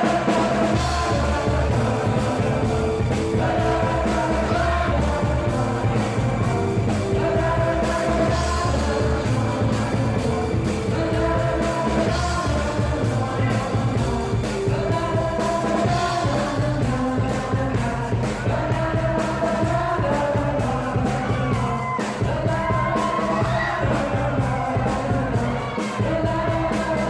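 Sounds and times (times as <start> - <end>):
lead singer singing: 0.0 - 27.0
rock band playing: 0.0 - 27.0.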